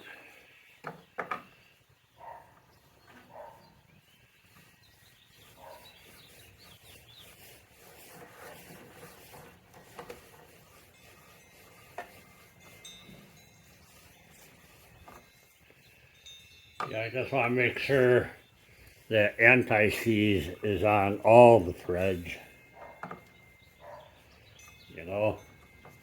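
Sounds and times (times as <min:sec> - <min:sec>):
faint rubbing and scraping: 0:00.0 - 0:26.0.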